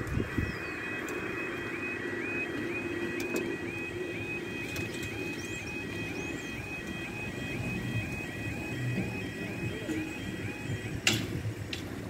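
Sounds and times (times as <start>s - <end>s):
level crossing yodel alarm: 0.0s - 11.2s.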